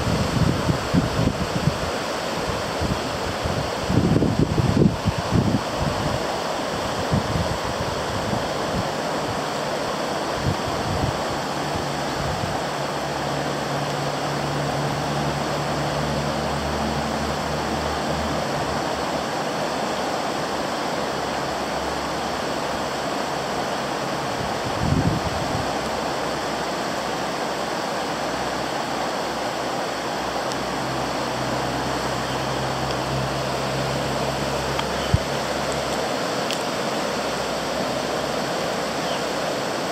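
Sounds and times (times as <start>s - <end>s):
flooded river rushing: 0.0s - 39.9s.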